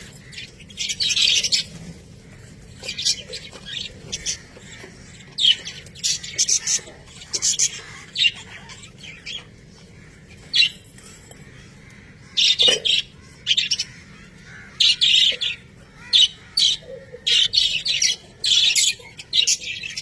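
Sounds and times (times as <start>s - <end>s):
budgerigars chattering: 0.2s - 9.6s, 12.3s - 20.0s.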